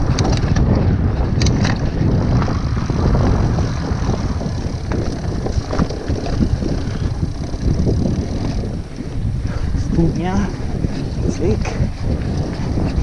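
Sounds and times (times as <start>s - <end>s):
bike tyres on sandy trail: 0.0s - 13.0s
wind buffeting microphone: 0.0s - 13.0s.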